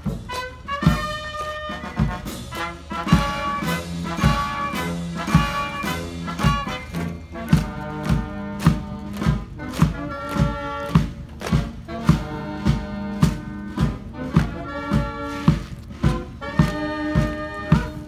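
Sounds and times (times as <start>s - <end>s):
steady drum beat: 0.0s - 18.0s
wind-instrument chords: 0.0s - 18.0s.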